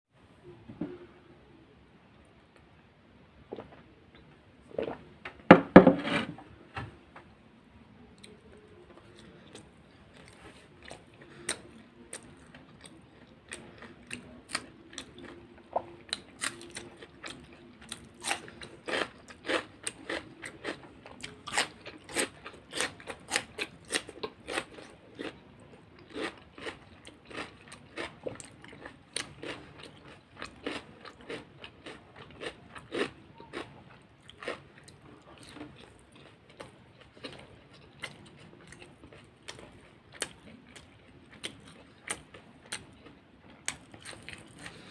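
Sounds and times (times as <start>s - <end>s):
crunchy chewing: 8.2s - 44.9s.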